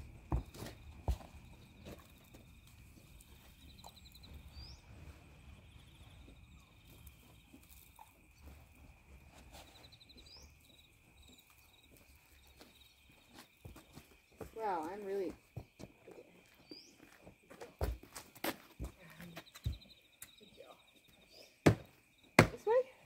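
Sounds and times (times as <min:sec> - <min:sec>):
high insect hum: 0:00.0 - 0:23.0
small birds chirping: 0:00.3 - 0:17.4, 0:18.9 - 0:23.0.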